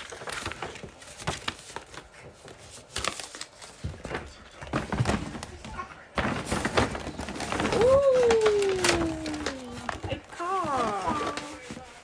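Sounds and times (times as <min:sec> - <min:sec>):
paper bags rustling: 0:00.0 - 0:12.0.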